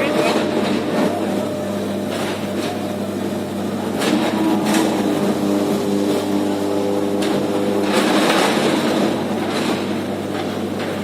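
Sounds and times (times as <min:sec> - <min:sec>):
deep electrical hum: 0:00.0 - 0:11.0
electric arc furnace roar: 0:00.0 - 0:11.0.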